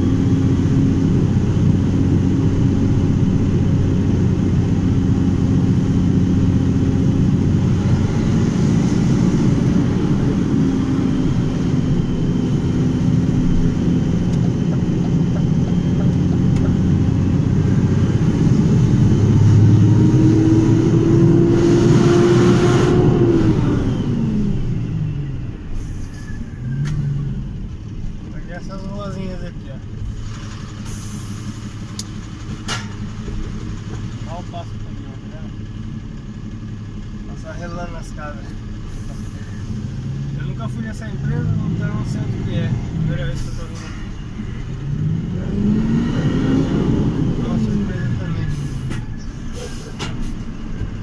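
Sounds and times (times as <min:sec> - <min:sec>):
vehicle engine hum from inside cab: 0:00.0 - 0:51.0.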